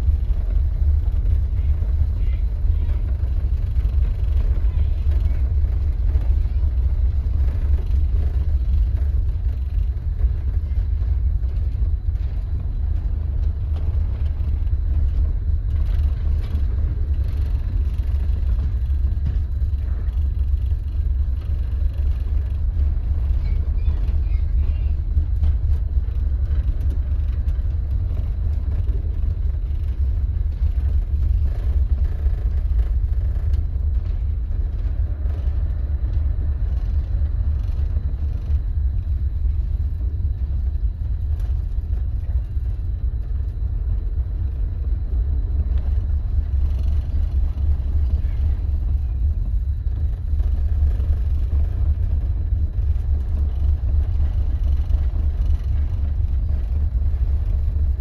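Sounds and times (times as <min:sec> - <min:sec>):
churning wake and rough sea: 0:00.0 - 0:58.0
wind buffeting microphone: 0:00.0 - 0:58.0.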